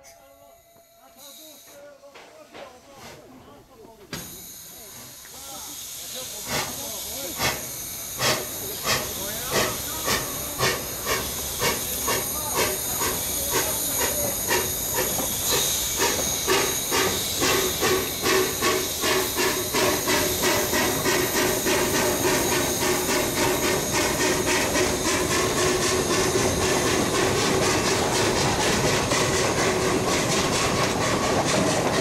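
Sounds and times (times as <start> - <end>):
steam hissing: 0.4 - 32.0
steam locomotive exhaust chuffs: 4.1 - 32.0.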